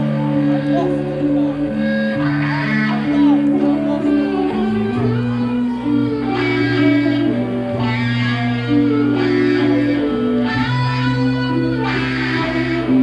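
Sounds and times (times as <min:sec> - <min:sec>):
music with bass notes and chords: 0:00.0 - 0:13.0.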